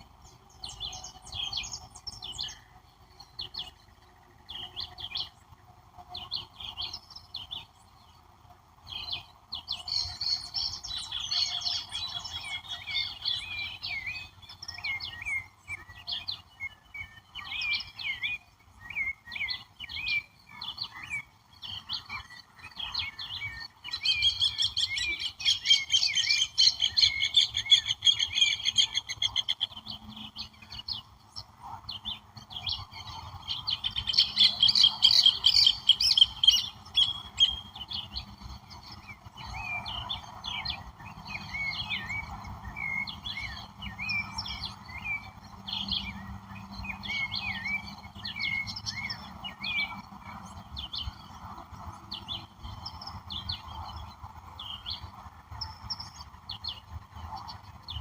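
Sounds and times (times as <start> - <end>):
birds singing trills: 0.0 - 58.0.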